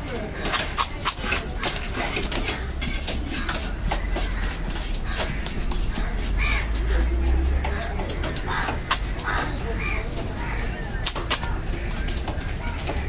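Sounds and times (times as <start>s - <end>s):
crows cawing: 0.1s - 13.0s.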